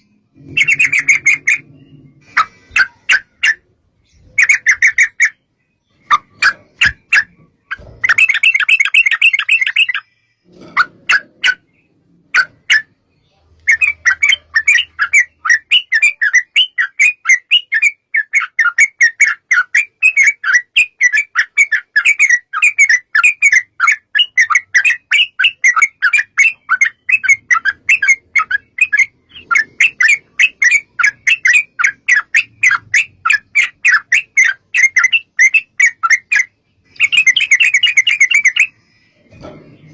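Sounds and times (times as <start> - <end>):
bird bubbling song: 0.0 - 39.9.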